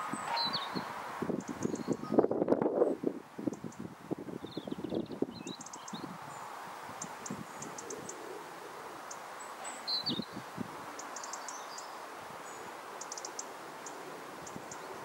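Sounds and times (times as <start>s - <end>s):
small birds chirping: 0.0s - 15.0s
wind through trees: 0.0s - 15.0s.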